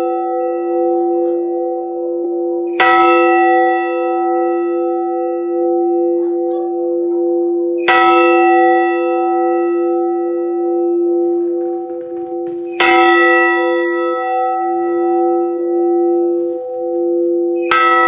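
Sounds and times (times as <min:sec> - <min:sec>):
church bell tolling: 0:00.0 - 0:18.0.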